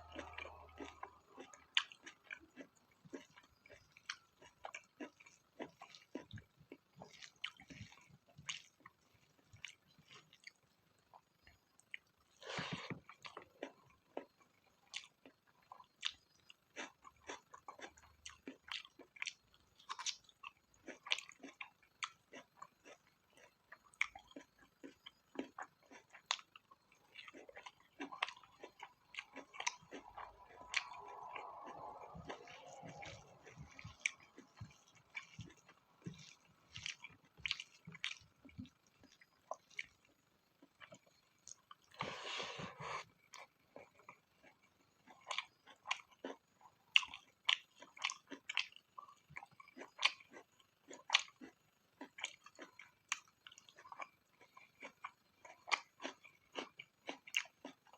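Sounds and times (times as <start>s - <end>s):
person chewing food: 0.0s - 57.9s.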